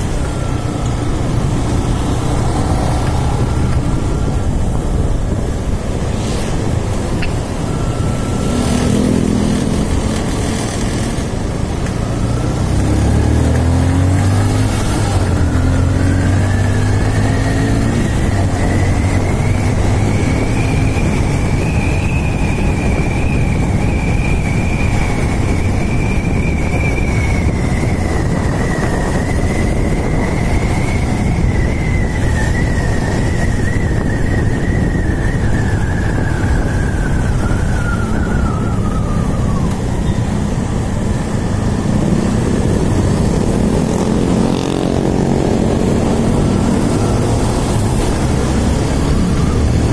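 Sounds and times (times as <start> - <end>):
motorcycle engine accelerating: 0.0 - 49.9
wind rushing over microphone: 0.0 - 49.9.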